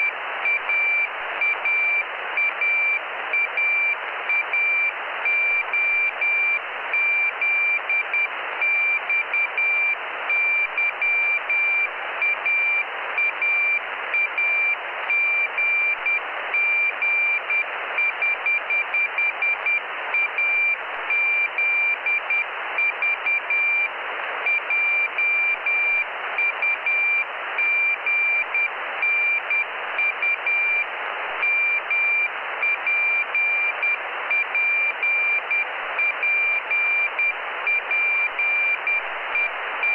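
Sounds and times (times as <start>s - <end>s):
radio receiver hiss: 0.0s - 39.9s.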